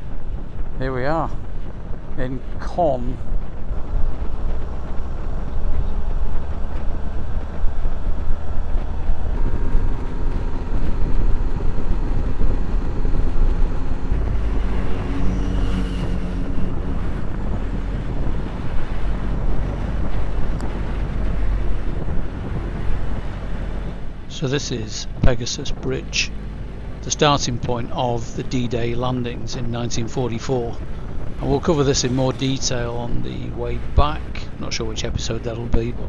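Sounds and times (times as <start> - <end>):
wind on microphone: 0.0 - 36.0
motorcycle engine running: 1.4 - 36.0.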